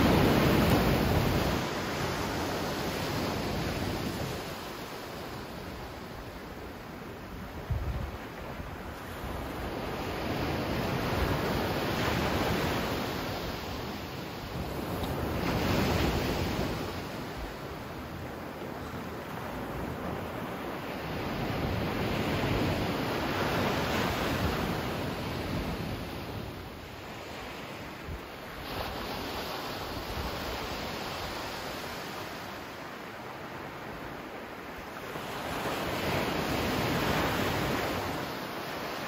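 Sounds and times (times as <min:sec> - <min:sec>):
ocean waves on sandy beach: 0:00.0 - 0:39.0.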